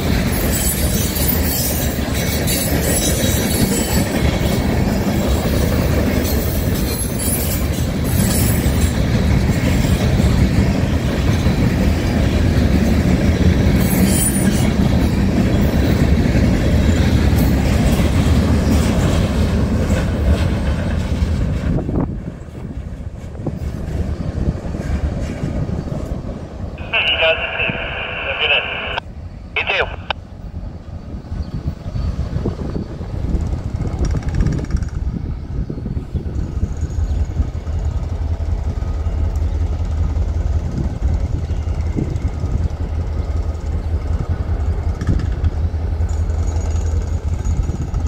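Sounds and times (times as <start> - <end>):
train wheels rumbling on rails: 0.0 - 26.8, 30.5 - 48.0.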